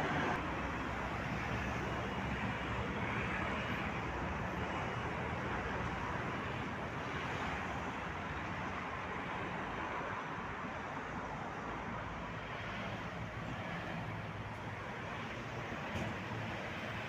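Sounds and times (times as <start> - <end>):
cars and coach passing: 0.0 - 17.0.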